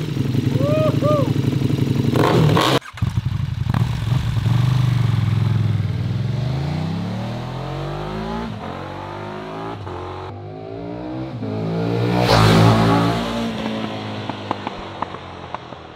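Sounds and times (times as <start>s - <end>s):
motorcycle accelerating: 0.0s - 15.9s.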